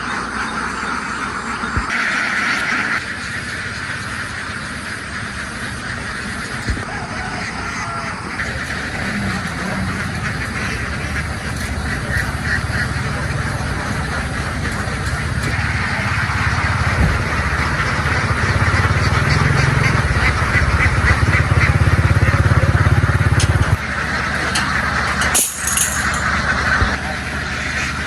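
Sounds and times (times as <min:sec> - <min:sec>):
ducks chattering: 0:00.0 - 0:28.0
vehicle engine running: 0:00.0 - 0:28.0.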